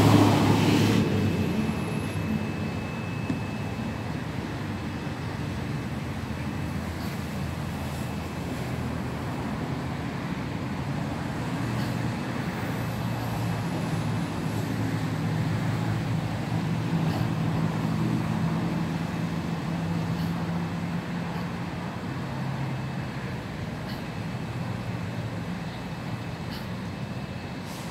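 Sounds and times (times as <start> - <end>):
low engine hum: 0.0 - 27.9.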